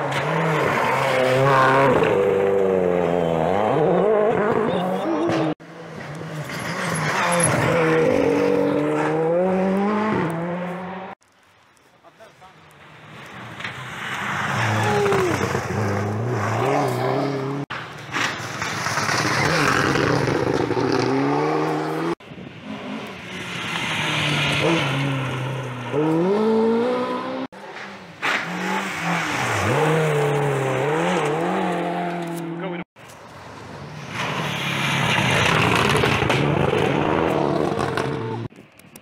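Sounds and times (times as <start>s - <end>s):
rally car engines revving: 0.0s - 11.2s, 13.4s - 32.9s, 33.7s - 38.5s.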